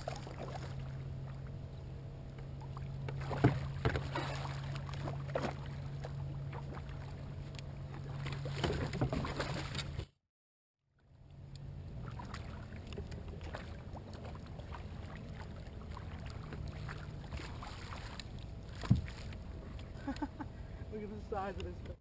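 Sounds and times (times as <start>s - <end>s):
steady low hum: 0.0s - 10.2s, 11.0s - 22.0s.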